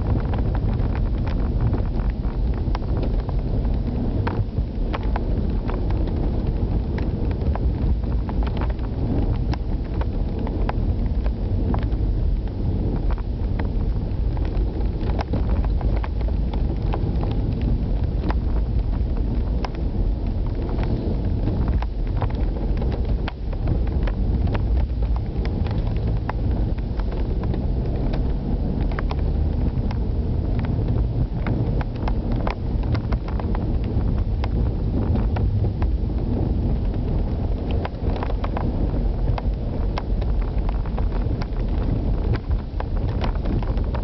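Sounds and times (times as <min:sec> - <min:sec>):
tyre and road noise: 0:00.0 - 0:44.0.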